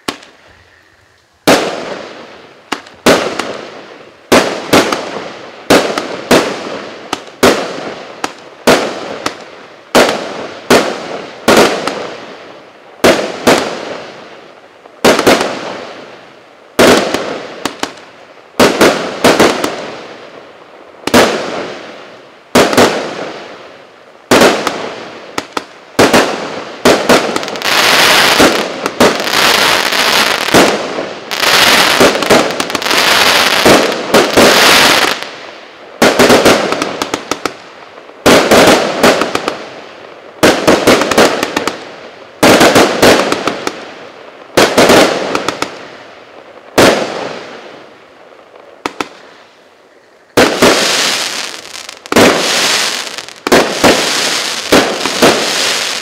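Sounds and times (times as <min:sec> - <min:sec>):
fireworks bangs: 0:00.0 - 0:00.7, 0:01.4 - 0:23.7, 0:24.3 - 0:49.5, 0:50.3 - 0:56.0
dense fireworks crackling: 0:00.0 - 0:56.0.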